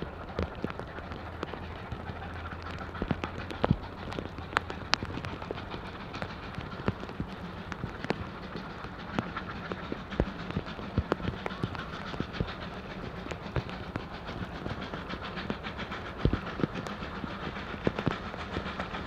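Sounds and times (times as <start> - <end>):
distant steam locomotives: 0.0 - 19.0
raindrop taps: 0.0 - 19.0
steady rain: 0.0 - 19.0.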